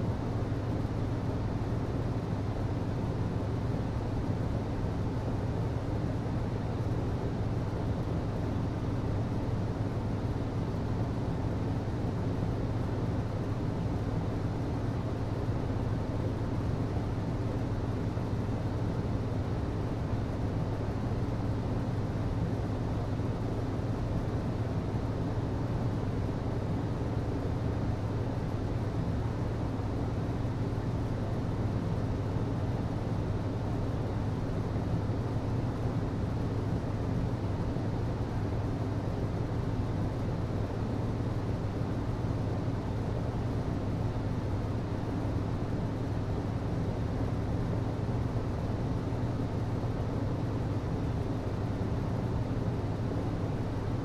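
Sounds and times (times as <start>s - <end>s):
ventilation system hum and air rush: 0.0s - 54.0s.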